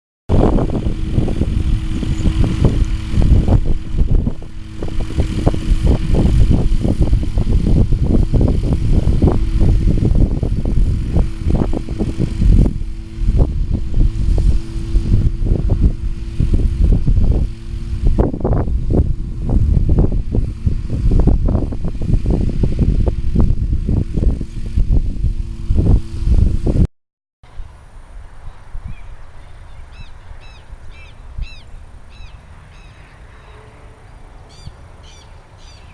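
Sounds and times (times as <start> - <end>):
small engine humming: 0.3 - 26.9, 27.8 - 35.9
wind buffeting microphone: 0.3 - 26.9, 27.5 - 35.9.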